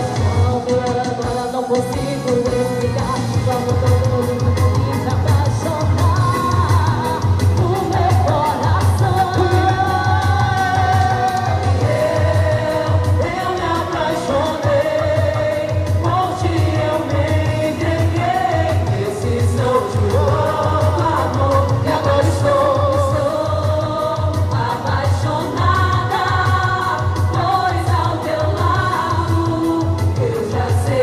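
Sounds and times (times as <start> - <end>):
sung melody over pulsing beat: 0.0 - 31.0.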